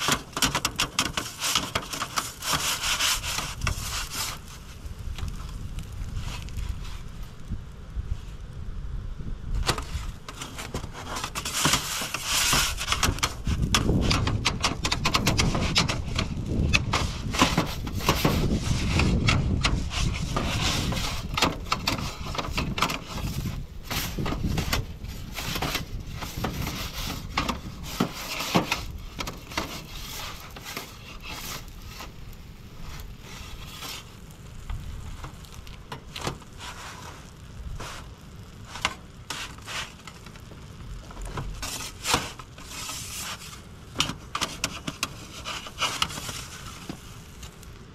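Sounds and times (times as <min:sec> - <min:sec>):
fire crackling and popping: 0:00.0 - 0:47.9
low fire rumble: 0:00.0 - 0:47.9.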